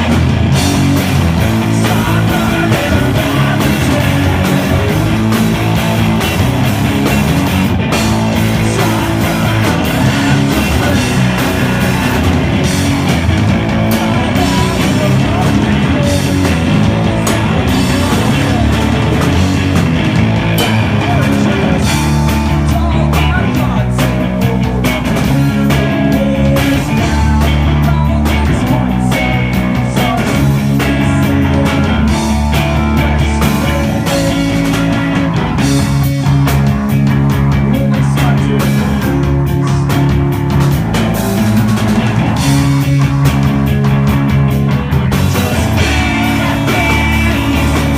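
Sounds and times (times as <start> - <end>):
electric guitar: 0.0 - 47.9
rock band playing live: 0.0 - 47.9.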